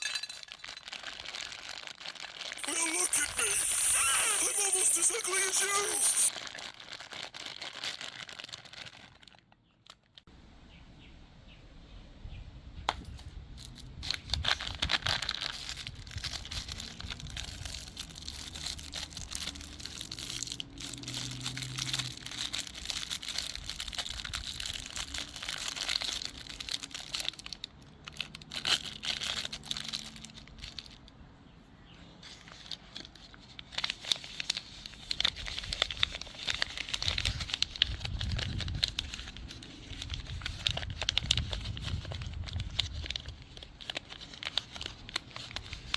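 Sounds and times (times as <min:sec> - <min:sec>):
plastic wrappers crinkling: 0:00.0 - 0:10.3, 0:13.6 - 0:31.2, 0:32.2 - 0:45.9.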